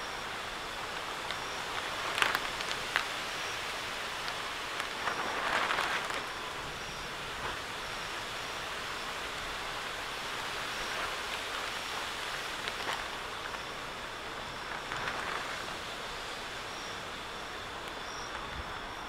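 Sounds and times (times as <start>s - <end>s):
steady rain pouring: 0.0s - 19.0s.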